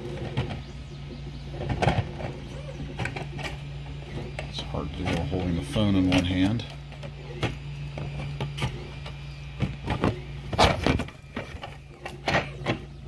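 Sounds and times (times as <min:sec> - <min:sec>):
steady low hum: 0:00.0 - 0:13.0
plastic parts knocking and clicking: 0:01.6 - 0:13.0.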